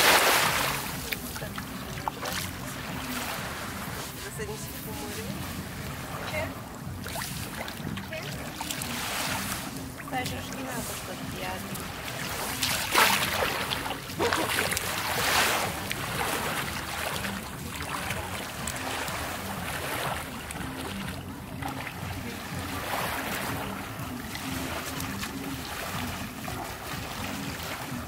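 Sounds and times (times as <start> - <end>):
feet splashing in shallows: 0.0 - 28.0
small waves lapping on shore: 0.0 - 28.0.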